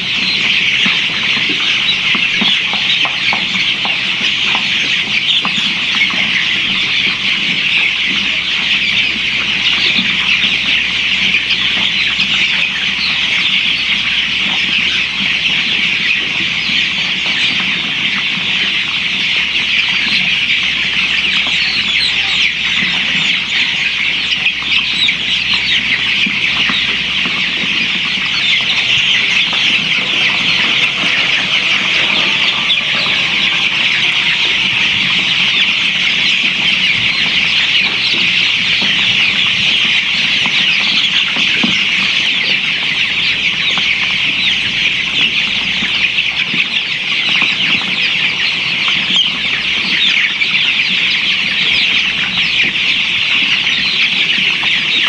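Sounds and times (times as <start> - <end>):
chickens clucking and cheeping: 0.0 - 55.0.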